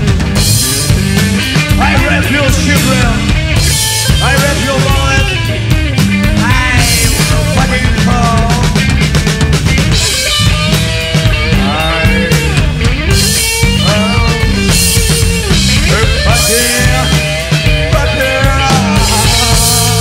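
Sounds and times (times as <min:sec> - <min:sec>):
bass guitar: 0:00.0 - 0:20.0
drum kit with cymbal crashes: 0:00.0 - 0:20.0
electric guitar lead line: 0:00.0 - 0:20.0.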